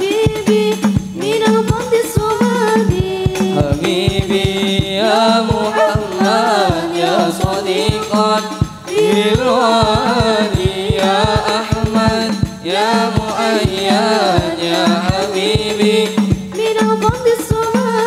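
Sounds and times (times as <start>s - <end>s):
frame drums beating: 0.0s - 18.0s
melismatic singing: 0.0s - 18.0s.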